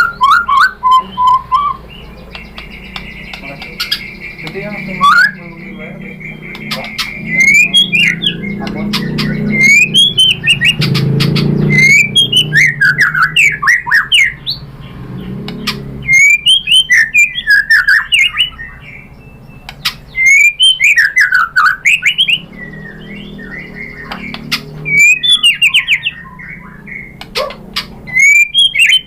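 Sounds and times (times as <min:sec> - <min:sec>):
bird singing whistles and clicks: 0:00.0 - 0:14.6, 0:15.3 - 0:29.0.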